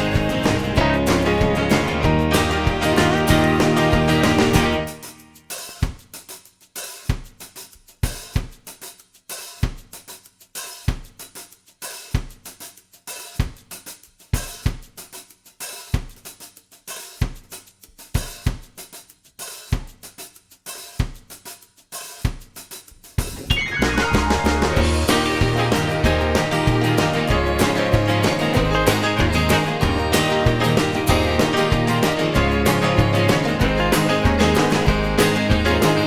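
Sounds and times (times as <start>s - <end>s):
drum kit beat: 0.0s - 36.0s.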